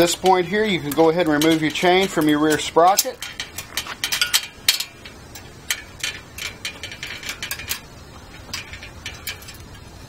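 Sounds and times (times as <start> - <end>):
bicycle chain clicking and rattling: 0.0 - 10.0.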